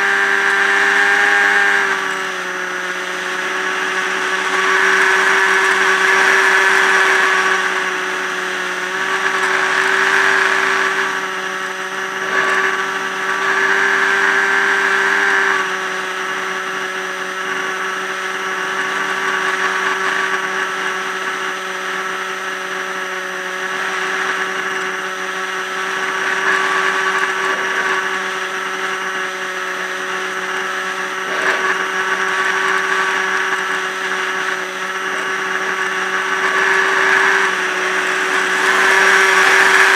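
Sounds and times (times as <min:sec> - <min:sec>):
model plane electric motor whine: 0:00.0 - 0:39.9.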